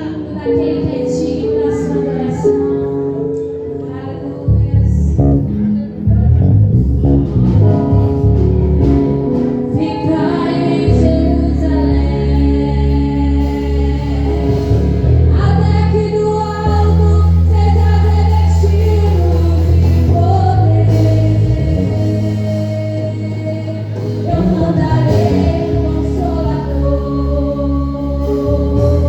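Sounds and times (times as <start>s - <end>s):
voices singing worship song: 0.0s - 5.2s, 9.3s - 29.0s
heavy bass notes: 4.5s - 29.0s.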